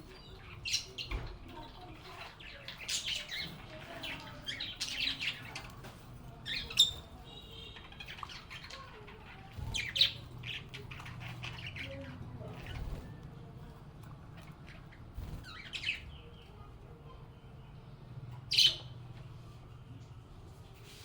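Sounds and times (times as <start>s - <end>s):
lovebirds chirping and squawking: 0.0s - 19.8s.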